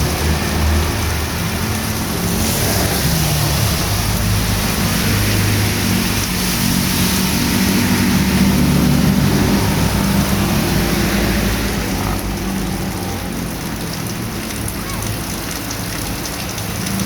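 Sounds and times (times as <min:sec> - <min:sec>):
vehicle engine passing by: 0:00.0 - 0:14.2
heavy rain hiss: 0:00.0 - 0:17.0.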